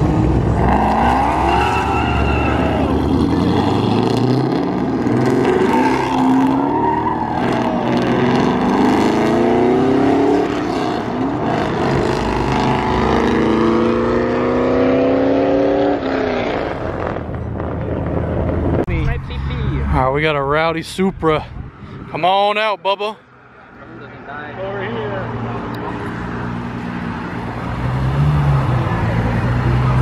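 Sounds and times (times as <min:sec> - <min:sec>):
cars accelerating hard: 0:00.0 - 0:20.0, 0:24.6 - 0:30.0.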